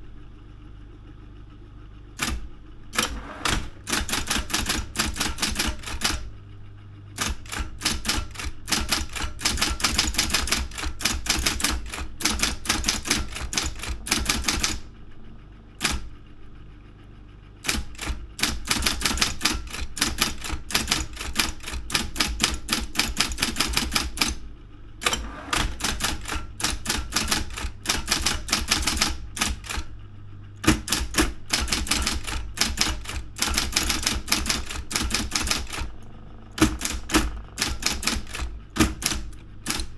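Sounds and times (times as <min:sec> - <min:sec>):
steady low hum: 0:00.0 - 0:39.9
electric typewriter key strikes: 0:02.2 - 0:06.3, 0:07.2 - 0:14.9, 0:15.8 - 0:16.2, 0:17.6 - 0:24.4, 0:25.0 - 0:30.0, 0:30.6 - 0:39.9.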